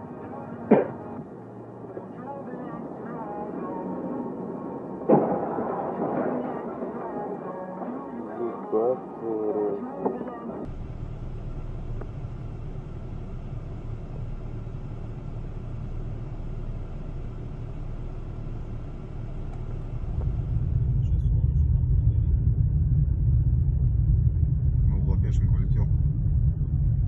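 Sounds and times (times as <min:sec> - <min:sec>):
car driving rumble: 0:00.0 - 0:27.0.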